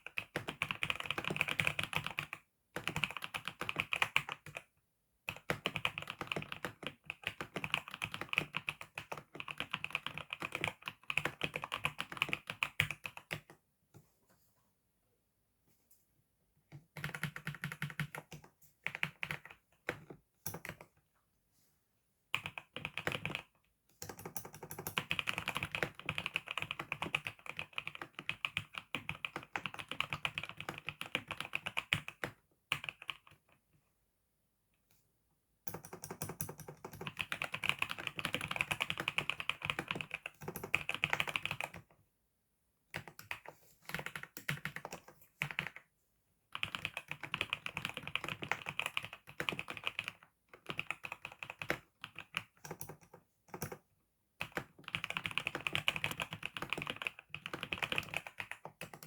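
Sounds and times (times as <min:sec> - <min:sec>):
fast typing on keyboard: 0:00.0 - 0:04.7, 0:05.3 - 0:13.5, 0:17.0 - 0:20.8, 0:22.3 - 0:33.5, 0:35.7 - 0:41.9, 0:43.0 - 0:45.8, 0:46.5 - 0:53.8, 0:54.4 - 0:59.0.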